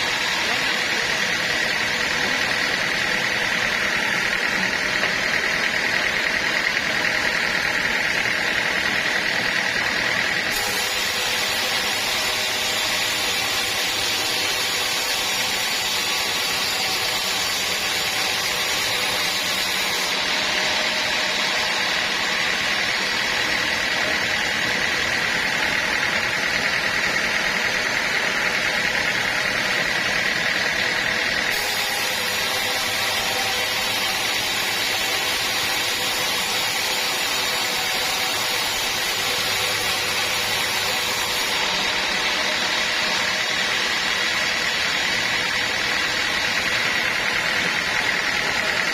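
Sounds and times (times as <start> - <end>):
sawmill saw running: 0.0 - 48.9.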